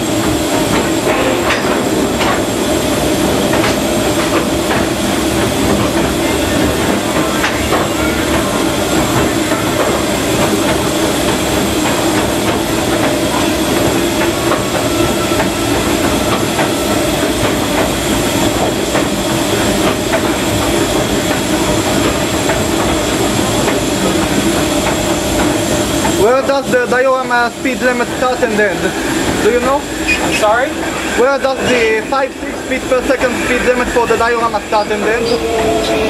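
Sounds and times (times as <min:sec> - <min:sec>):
steam locomotive running: 0:00.0 - 0:36.0
wheels on the track: 0:00.0 - 0:36.0.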